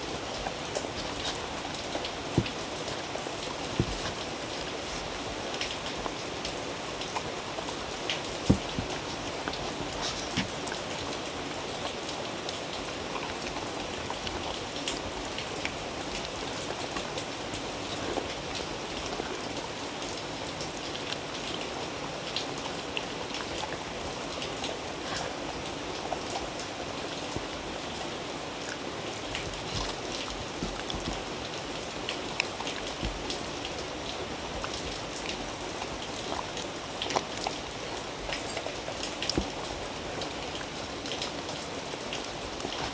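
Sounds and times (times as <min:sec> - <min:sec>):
dog chewing and licking food: 0:00.0 - 0:42.9.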